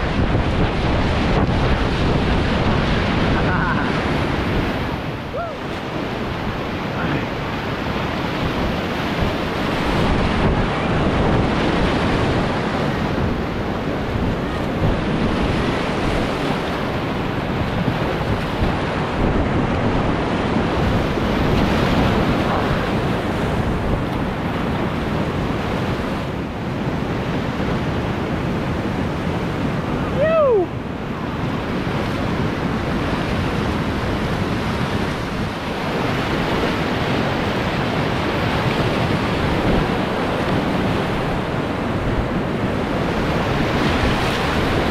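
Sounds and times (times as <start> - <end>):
whitewater rushing: 0.0 - 44.9.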